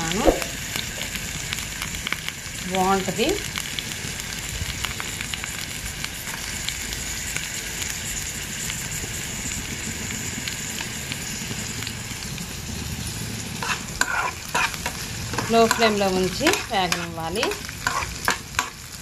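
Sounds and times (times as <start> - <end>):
vegetables sizzling in oil: 0.0 - 19.0
small oil crackles: 0.2 - 19.0.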